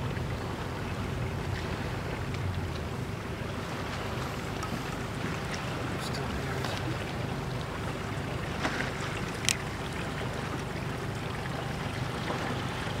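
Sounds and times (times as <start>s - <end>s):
outboard motor idling: 0.0s - 13.0s
water washing around boat: 0.0s - 13.0s.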